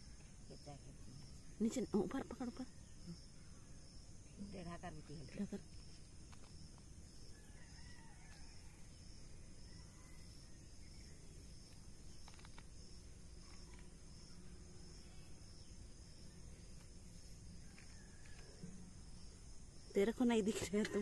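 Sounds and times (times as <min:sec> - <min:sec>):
pulsing insect trill: 0:00.0 - 0:21.0.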